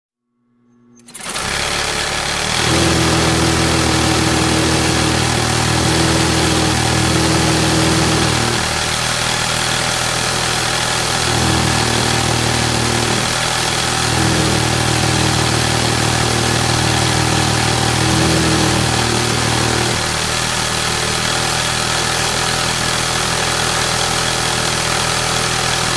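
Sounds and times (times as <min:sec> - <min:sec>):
sewing machine running: 0:01.0 - 0:25.9.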